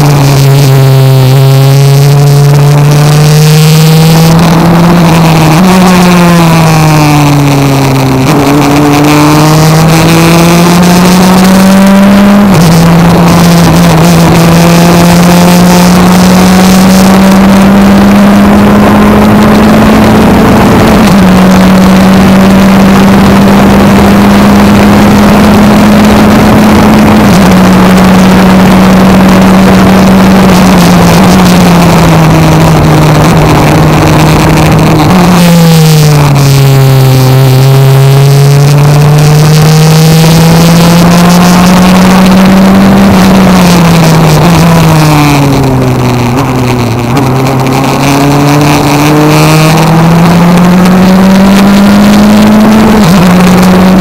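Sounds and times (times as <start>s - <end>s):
race car engine under load: 0.0s - 54.0s.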